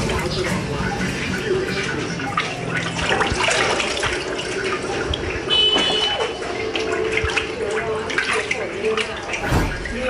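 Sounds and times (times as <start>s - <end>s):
water splashing in tub: 0.0s - 10.0s.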